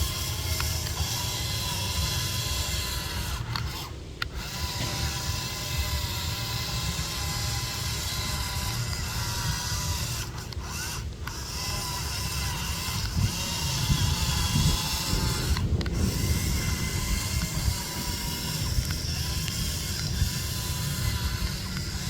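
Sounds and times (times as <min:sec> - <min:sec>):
electric motor whine: 0:00.0 - 0:22.0
gear rattle: 0:00.0 - 0:22.0.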